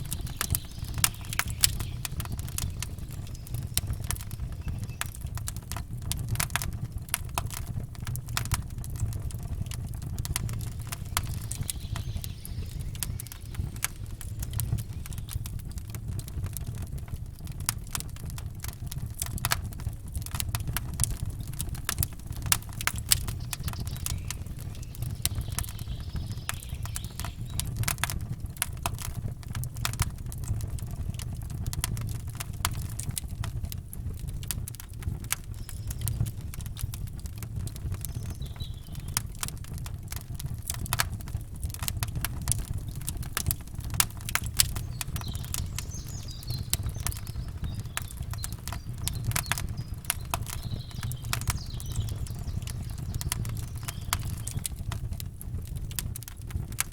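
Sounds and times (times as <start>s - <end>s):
campfire crackling and popping: 0.0s - 56.9s
low steady rumble: 0.0s - 56.9s.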